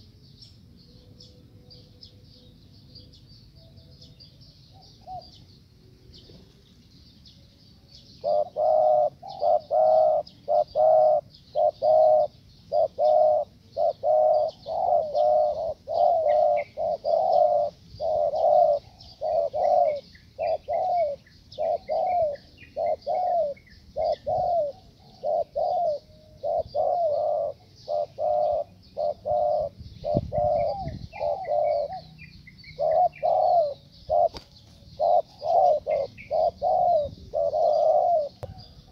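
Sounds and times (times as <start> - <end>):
dove cooing: 3.6 - 5.5, 8.0 - 38.9.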